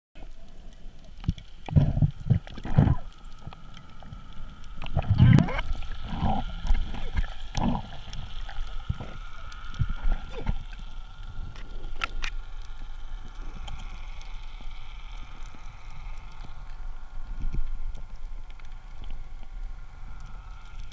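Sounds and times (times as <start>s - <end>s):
faint steady whine: 0.2s - 20.9s.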